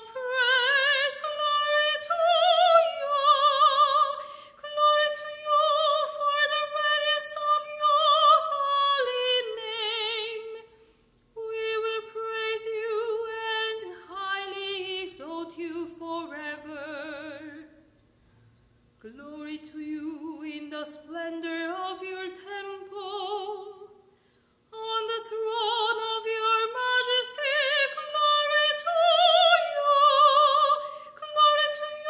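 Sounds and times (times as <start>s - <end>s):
woman singing with vibrato: 0.0s - 10.7s, 11.4s - 17.8s, 19.0s - 24.0s, 24.7s - 32.0s.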